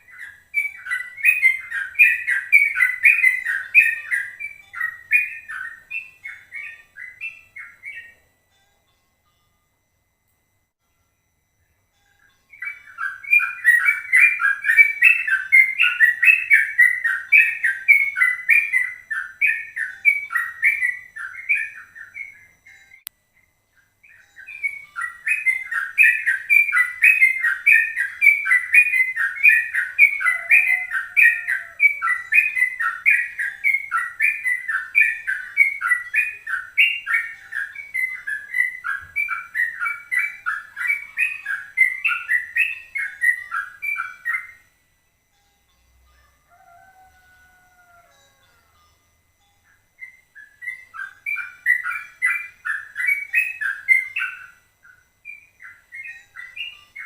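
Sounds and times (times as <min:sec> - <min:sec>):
songbird whistled chirps: 0:00.0 - 0:08.8, 0:11.2 - 0:57.0.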